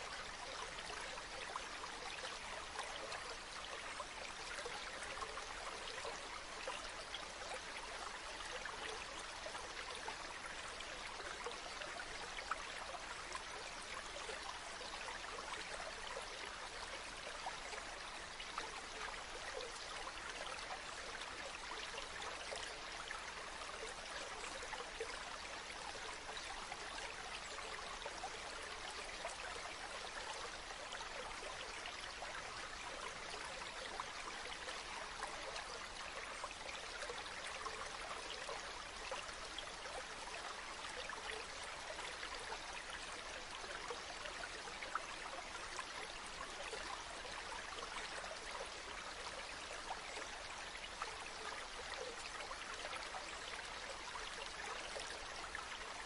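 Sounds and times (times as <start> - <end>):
river water babbling over stones: 0.0 - 56.0.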